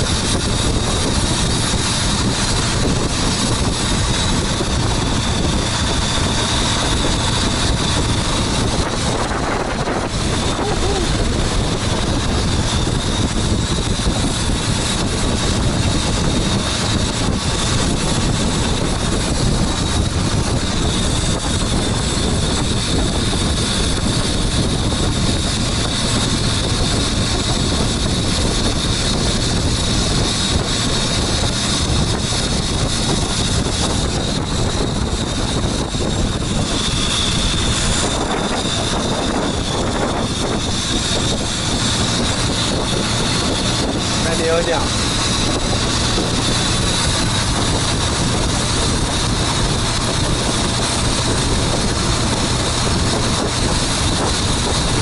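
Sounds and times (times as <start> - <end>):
boat engine running: 0.0 - 55.0
rush of wind and water: 0.0 - 55.0
thin high whine: 0.0 - 55.0.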